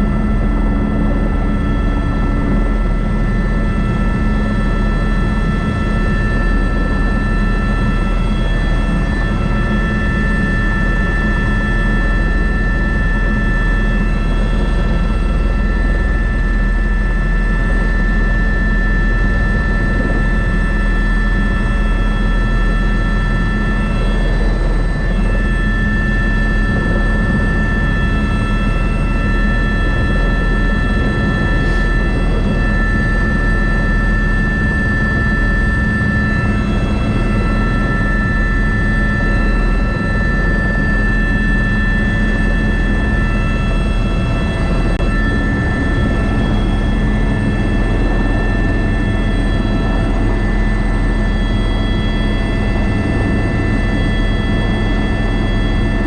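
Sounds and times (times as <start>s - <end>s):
helicopter rotor and engine: 0.0s - 56.0s
high turbine whine: 0.0s - 56.0s.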